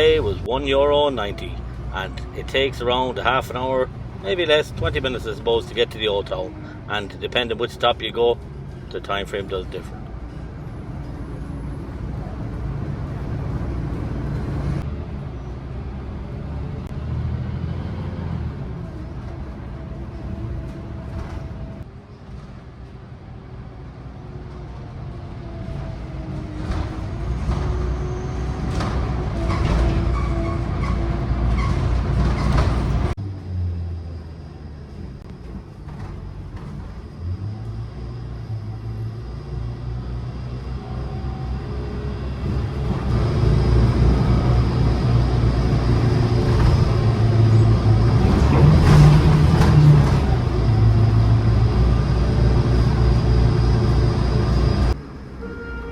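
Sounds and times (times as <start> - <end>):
rattles inside bus: 0.0 - 33.5, 34.1 - 55.9
bus engine and road rumble: 0.0 - 55.9.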